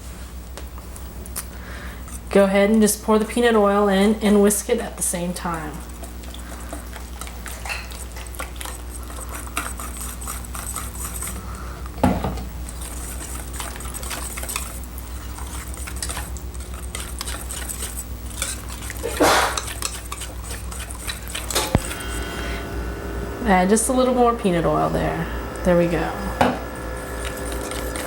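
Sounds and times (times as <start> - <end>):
whisk beating in a bowl: 1.9 - 28.0.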